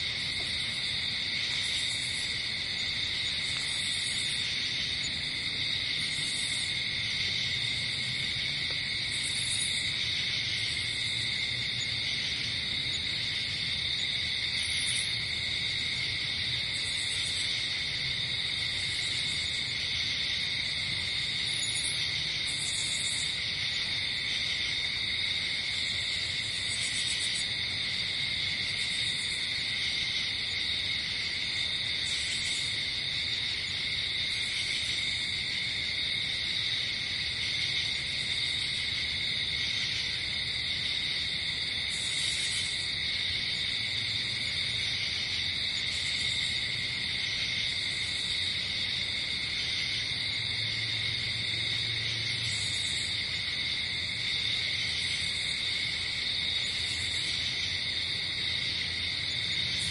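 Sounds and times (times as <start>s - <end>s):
crickets and insects chorus: 0.0s - 59.9s
high-pitched pulsing insect calls: 0.0s - 59.9s.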